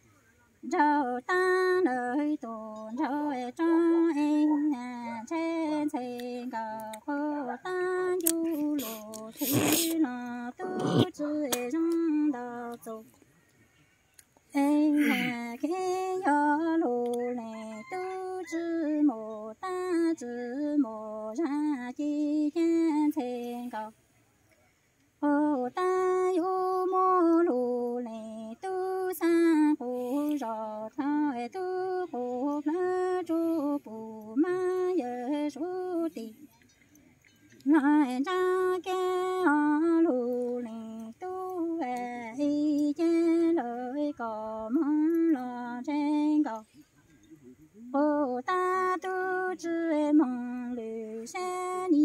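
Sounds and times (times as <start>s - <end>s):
woman chanting: 0.6s - 13.2s, 14.5s - 24.0s, 25.2s - 36.6s, 37.6s - 46.9s, 47.7s - 52.0s.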